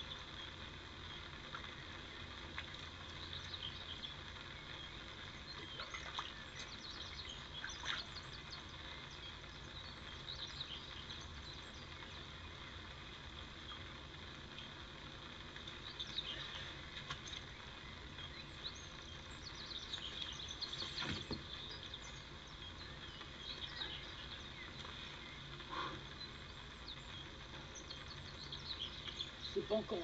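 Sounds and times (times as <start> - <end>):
low outdoor background: 0.0 - 30.0
small birds chirping: 0.0 - 30.0.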